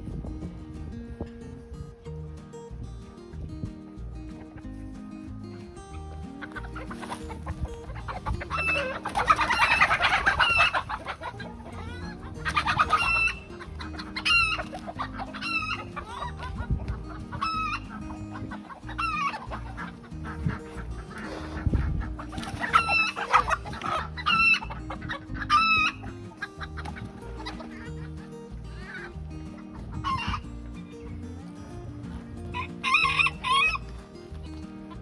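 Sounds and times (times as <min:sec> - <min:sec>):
background music with low notes: 0:00.0 - 0:35.0
chickens clucking: 0:00.0 - 0:35.0.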